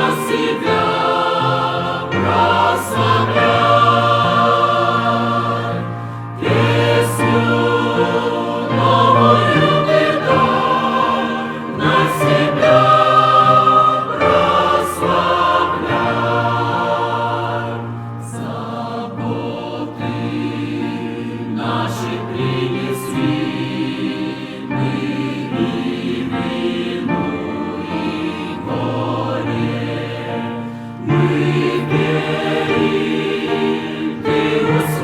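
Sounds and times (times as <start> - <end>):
choir singing a slow hymn: 0.0 - 35.0.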